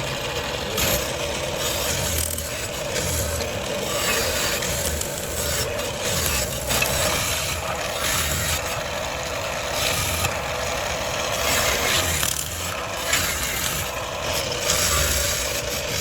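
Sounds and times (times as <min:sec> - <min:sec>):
motor hum: 0:00.0 - 0:16.0
tool grinding bone: 0:00.6 - 0:16.0.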